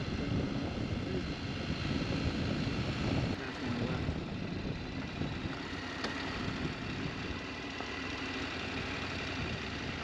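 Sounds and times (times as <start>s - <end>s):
muffled motorcycle engine running: 0.0s - 10.0s.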